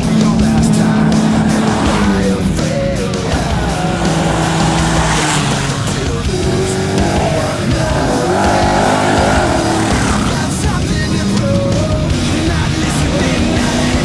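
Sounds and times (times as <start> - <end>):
background music: 0.0 - 14.0
race vehicle engines running hard: 0.0 - 14.0.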